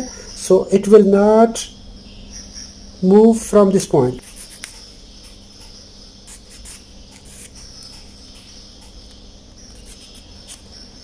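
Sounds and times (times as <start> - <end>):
high-pitched chirring: 0.0 - 11.0.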